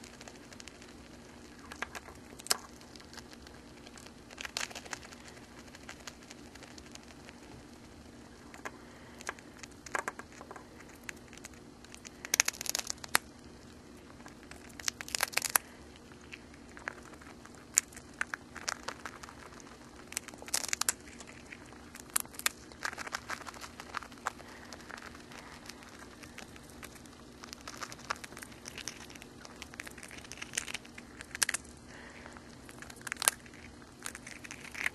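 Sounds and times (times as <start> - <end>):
hamster crunching cracker: 0.0 - 34.9.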